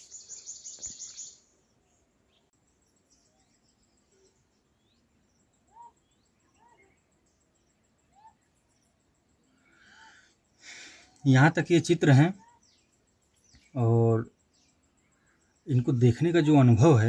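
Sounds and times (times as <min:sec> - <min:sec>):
bird chirps: 0:00.0 - 0:17.0
bird trill: 0:00.0 - 0:17.0.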